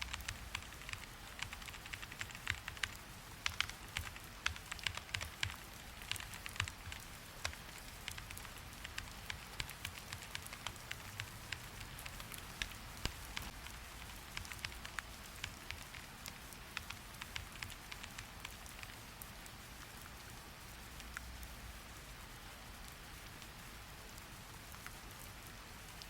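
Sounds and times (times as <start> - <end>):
rain falling: 0.0 - 26.0
raindrops ticking on hard surface: 0.0 - 26.0.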